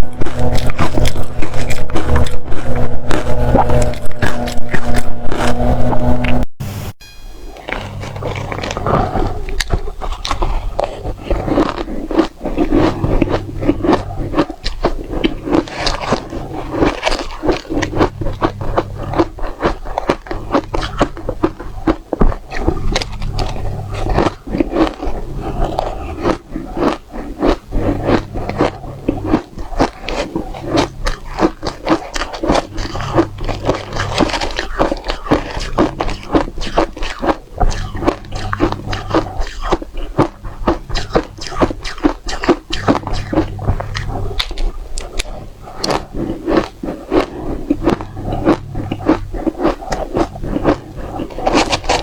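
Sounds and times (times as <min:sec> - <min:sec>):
crunching frozen ice: 0:00.0 - 0:06.4, 0:07.7 - 0:52.0
low hum: 0:00.0 - 0:52.0.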